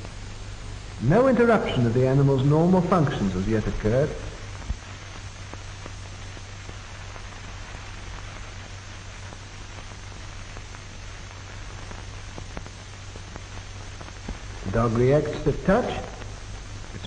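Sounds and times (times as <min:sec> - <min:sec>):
faint crackles: 0:00.0 - 0:17.0
film soundtrack hiss: 0:00.0 - 0:17.0
low hum: 0:00.0 - 0:17.0.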